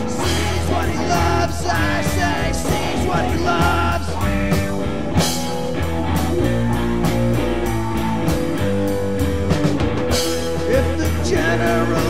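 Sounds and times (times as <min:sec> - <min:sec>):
drum kit beat: 0:00.0 - 0:12.0
guitar: 0:00.0 - 0:12.0
rock band playing: 0:00.0 - 0:12.0.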